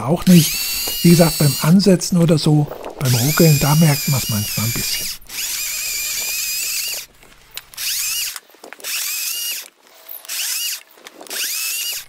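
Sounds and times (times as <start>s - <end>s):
cordless chainsaw whine: 0.0s - 12.0s.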